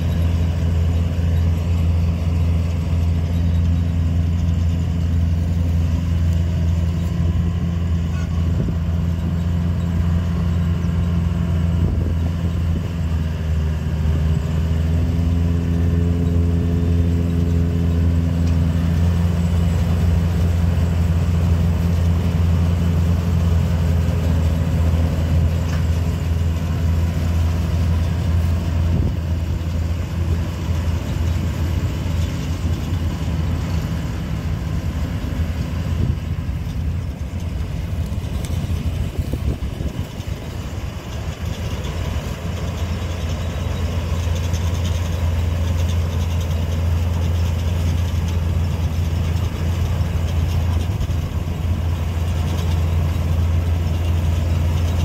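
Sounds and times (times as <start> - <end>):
combine harvester engine humming: 0.0 - 55.0.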